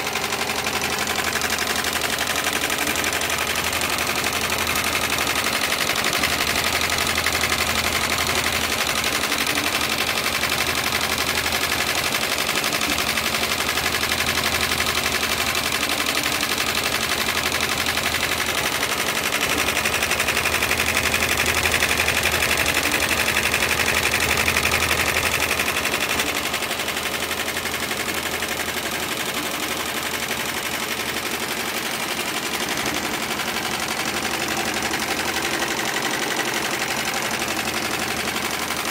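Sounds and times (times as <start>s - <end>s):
sewing machine clatter: 0.0s - 38.9s.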